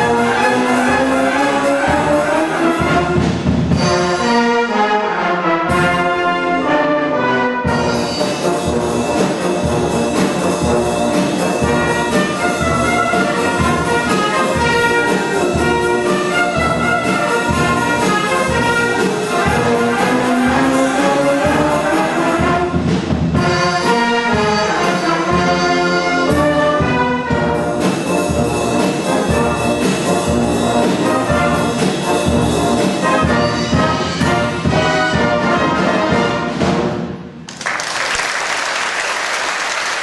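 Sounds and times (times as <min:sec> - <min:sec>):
brass band playing: 0:00.0 - 0:37.4.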